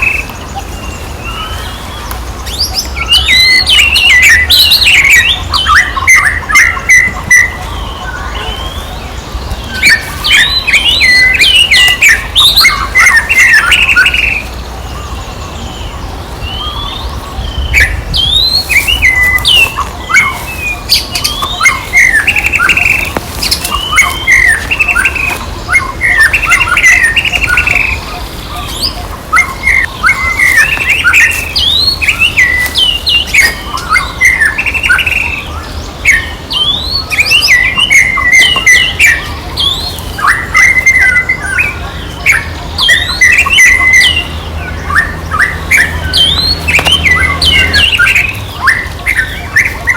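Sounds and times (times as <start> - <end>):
monkeys squealing and chirping: 0.0 - 49.9.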